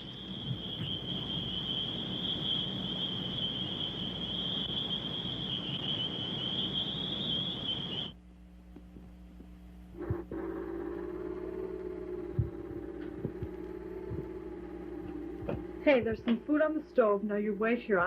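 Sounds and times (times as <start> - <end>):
crickets trilling: 0.0 - 8.2, 10.0 - 18.0
faint low hum: 0.0 - 18.0
film soundtrack hiss: 0.0 - 18.0.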